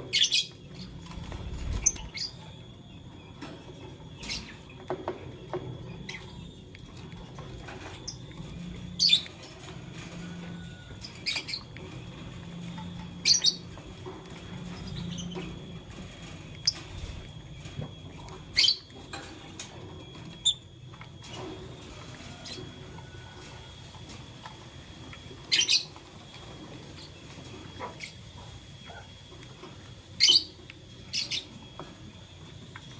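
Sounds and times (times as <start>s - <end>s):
low background hum: 0.0s - 32.9s.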